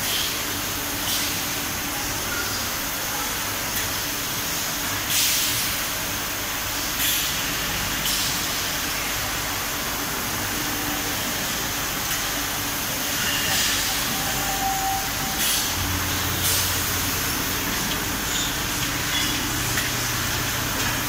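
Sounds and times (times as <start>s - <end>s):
machinery hiss and hum: 0.0s - 21.0s.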